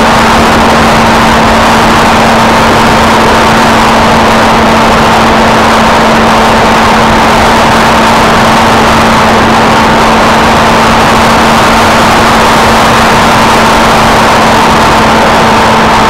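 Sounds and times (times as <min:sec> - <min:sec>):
wind rush: 0:00.0 - 0:16.0.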